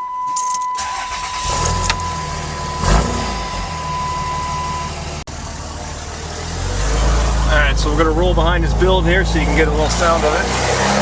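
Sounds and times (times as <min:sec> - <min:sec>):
diesel engine exhaust rumble: 0:00.8 - 0:11.0.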